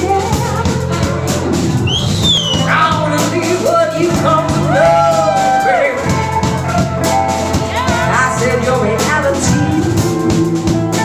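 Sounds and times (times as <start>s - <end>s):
band playing rock music: 0.0s - 11.0s
drum kit beat: 0.0s - 11.0s.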